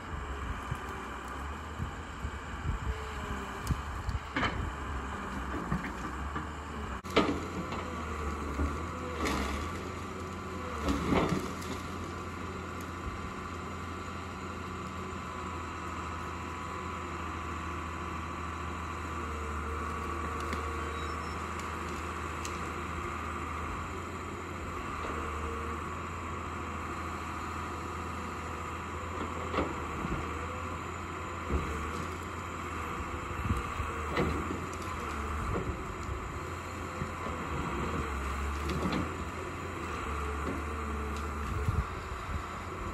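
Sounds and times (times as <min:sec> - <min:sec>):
excavator diesel engine whining: 0:00.0 - 0:42.9.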